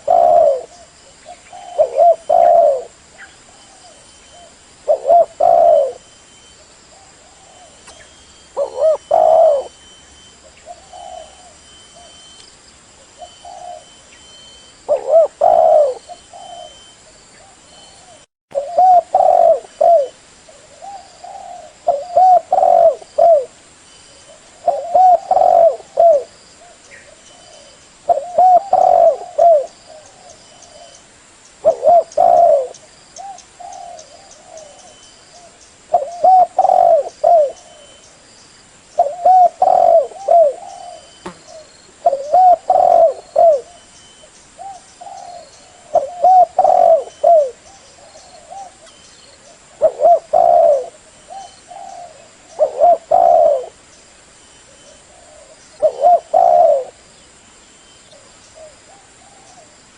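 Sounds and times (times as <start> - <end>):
dove cooing: 0.0 - 6.1, 6.9 - 12.4, 13.1 - 14.0, 14.8 - 23.6, 24.3 - 31.0, 31.6 - 38.0, 39.0 - 43.9, 44.6 - 53.8, 54.7 - 57.0.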